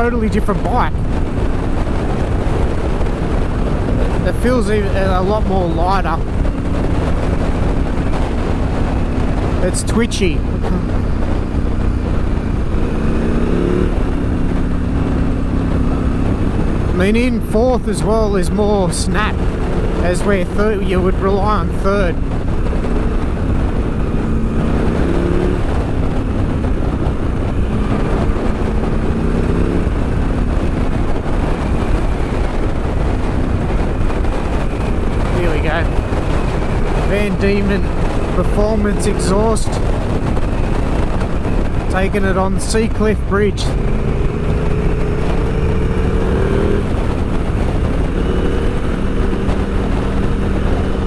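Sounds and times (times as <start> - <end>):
motorcycle engine running: 0.0 - 51.0
wind noise on microphone: 0.0 - 51.0.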